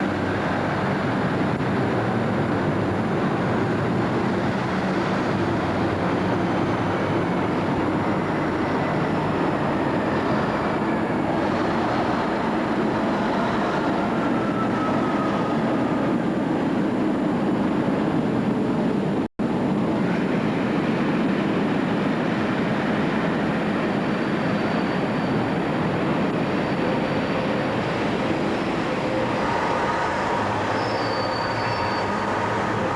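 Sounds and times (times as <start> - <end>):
diesel locomotive engine running: 0.0 - 32.9.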